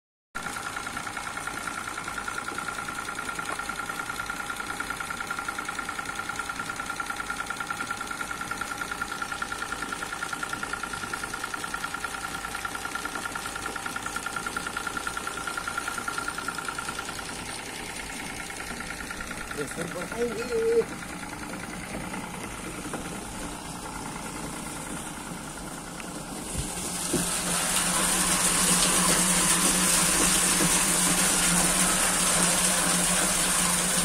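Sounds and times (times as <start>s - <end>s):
spray pump motor pulsing: 0.4s - 34.0s.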